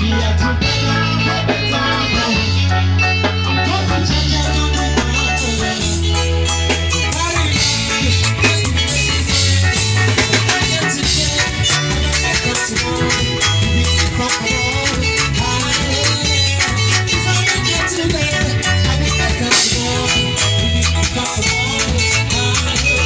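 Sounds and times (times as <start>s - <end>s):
person singing into microphone: 0.0s - 6.4s, 7.0s - 23.0s
bass guitar: 0.0s - 23.0s
drum kit: 0.0s - 23.0s
electric guitar: 0.0s - 23.0s
keyboard: 0.0s - 23.0s.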